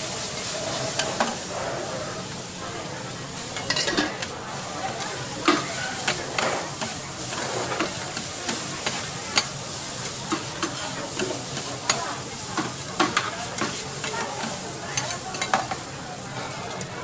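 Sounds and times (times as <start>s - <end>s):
food sizzling in pan: 0.0s - 17.0s.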